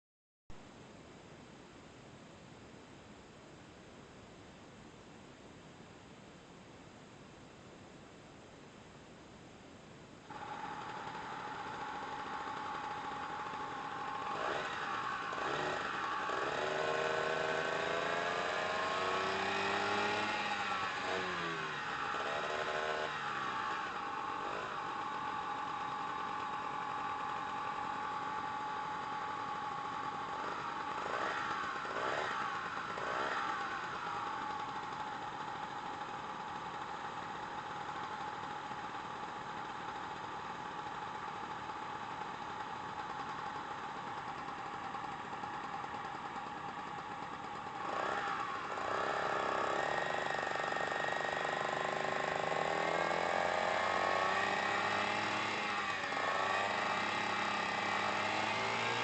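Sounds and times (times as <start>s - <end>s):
scooter engine idling and revving: 10.3s - 59.0s.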